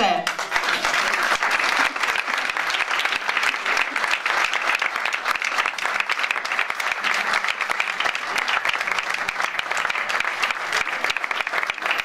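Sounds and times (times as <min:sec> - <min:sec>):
audience applauding: 0:00.2 - 0:12.0.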